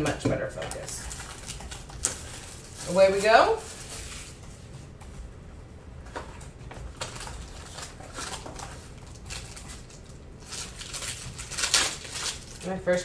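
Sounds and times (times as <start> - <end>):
cardboard and plastic rustling: 0.1 - 5.3, 6.0 - 13.0.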